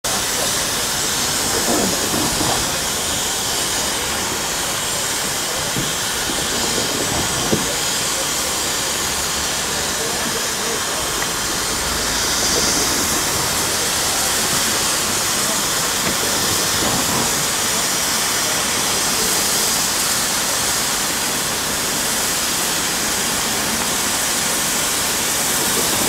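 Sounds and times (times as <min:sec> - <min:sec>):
steam hissing from locomotives: 0:00.0 - 0:26.0.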